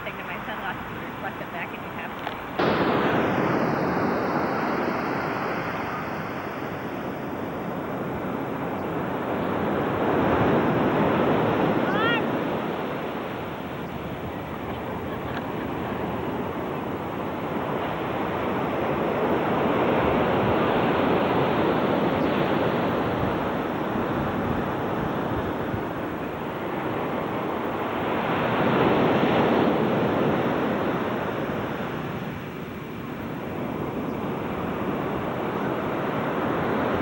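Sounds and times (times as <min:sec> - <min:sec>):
waves breaking on beach: 0:00.0 - 0:37.0.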